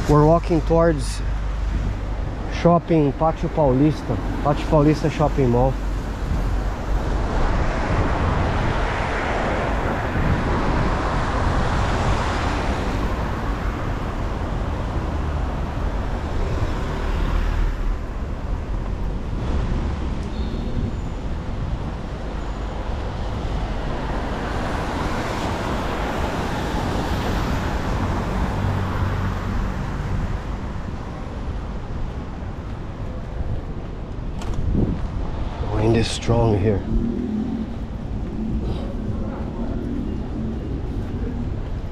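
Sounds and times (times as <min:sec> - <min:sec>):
wind rumble on microphone: 0:00.0 - 0:02.5, 0:03.4 - 0:41.9
vehicles passing: 0:00.0 - 0:41.9.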